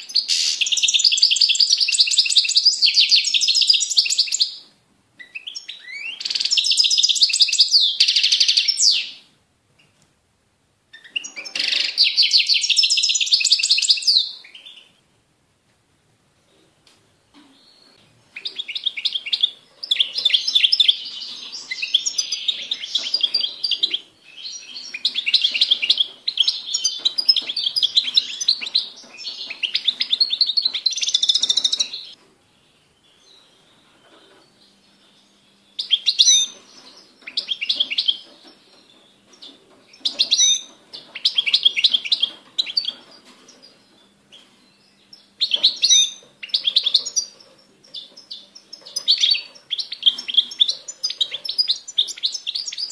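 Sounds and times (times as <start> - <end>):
finch singing: 0.0 - 4.6, 5.2 - 9.2, 10.9 - 14.9, 17.5 - 52.9.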